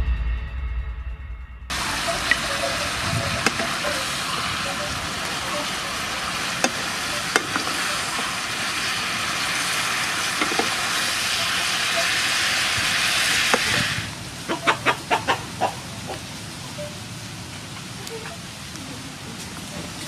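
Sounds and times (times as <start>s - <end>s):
stir-fry sizzling in a pan: 1.7s - 20.0s.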